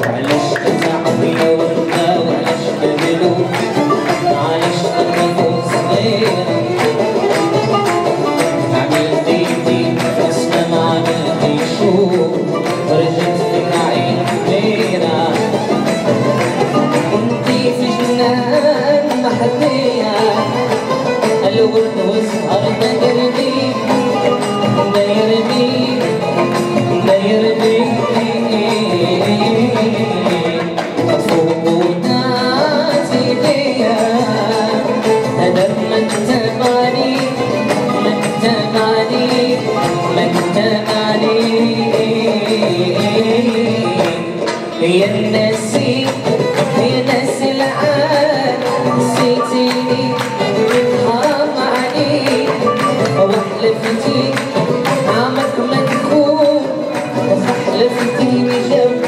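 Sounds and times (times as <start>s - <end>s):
acoustic guitar: 0.0s - 59.0s
banjo: 0.0s - 59.0s
darbuka drum: 0.0s - 59.0s
man singing: 0.0s - 59.0s
oud: 0.0s - 59.0s
violin: 0.0s - 59.0s.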